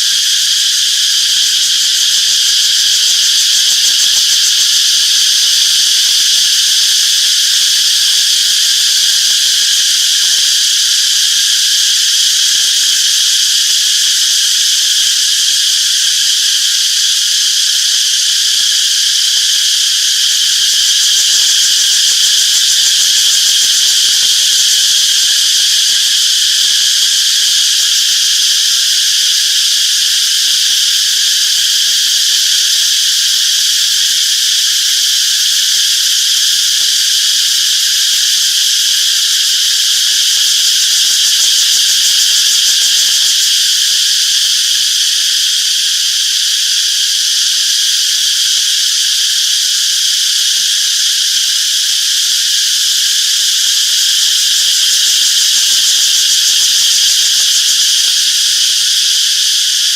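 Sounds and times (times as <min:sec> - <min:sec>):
cicadas singing: 0:00.0 - 0:59.9.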